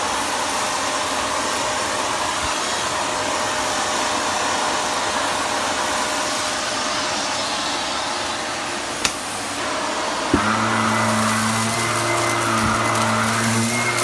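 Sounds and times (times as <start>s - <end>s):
vacuum cleaner running on rug: 0.0s - 14.0s.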